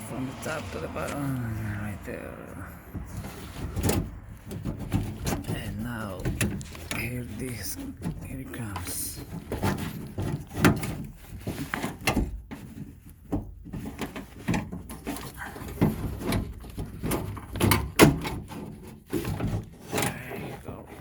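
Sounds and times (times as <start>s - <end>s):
plastic and metal clunks and clicks: 2.9s - 21.0s.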